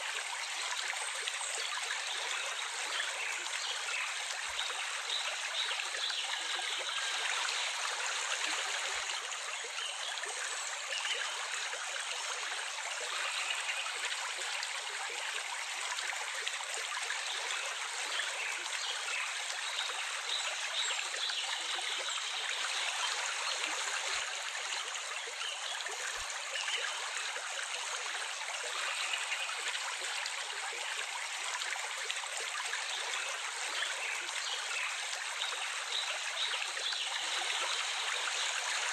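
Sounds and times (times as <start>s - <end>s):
stream trickling and gurgling: 0.0s - 38.9s.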